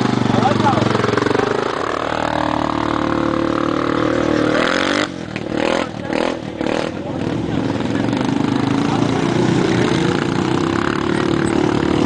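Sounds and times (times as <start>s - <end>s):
quad engine accelerating: 0.0s - 12.0s.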